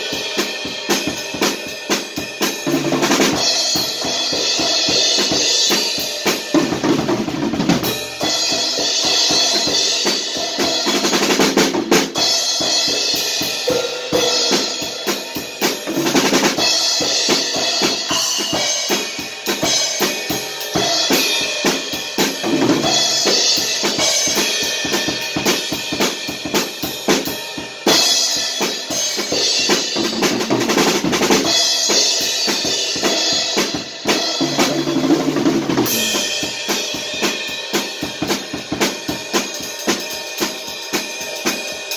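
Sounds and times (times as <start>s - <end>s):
drum kit groove: 0.0s - 41.9s.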